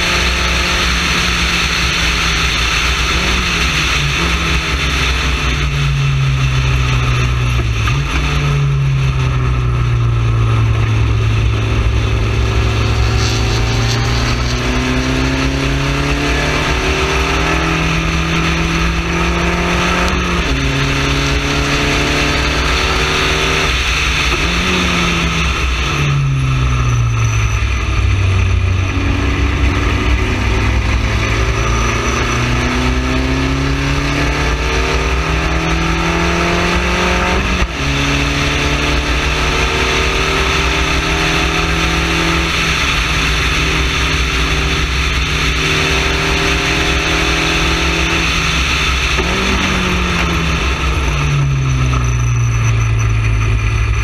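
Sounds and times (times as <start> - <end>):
gear changes: 0.0 - 54.0
race car engine accelerating: 0.0 - 54.0
wind and road noise: 0.0 - 54.0.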